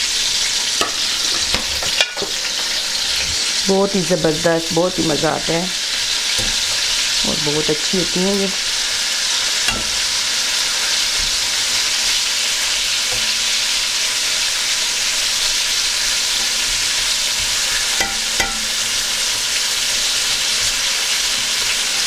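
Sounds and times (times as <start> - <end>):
chillies sizzling in hot oil: 0.0 - 22.0.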